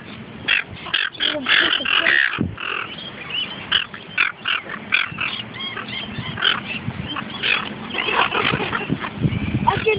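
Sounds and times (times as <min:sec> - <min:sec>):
seagulls calling: 0:00.0 - 0:09.9.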